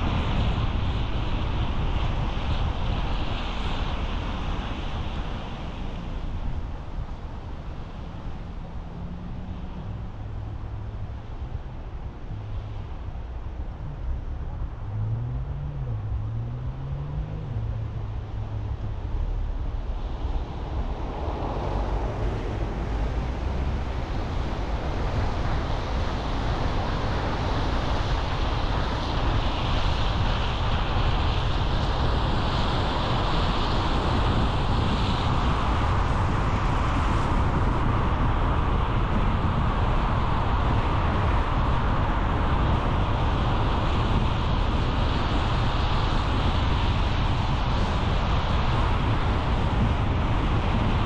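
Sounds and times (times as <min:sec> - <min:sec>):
car tyre and wind noise: 0:00.0 - 0:51.0.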